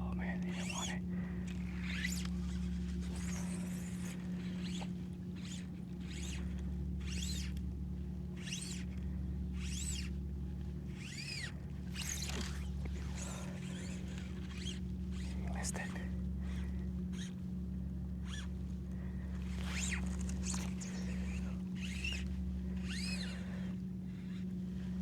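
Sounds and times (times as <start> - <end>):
steady low hum: 0.0 - 25.0
fly line squeaking: 0.1 - 7.6, 8.3 - 25.0.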